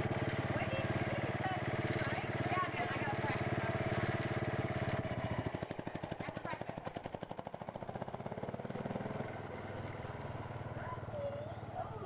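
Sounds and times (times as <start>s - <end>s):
motorcycle engine chugging: 0.0s - 12.0s.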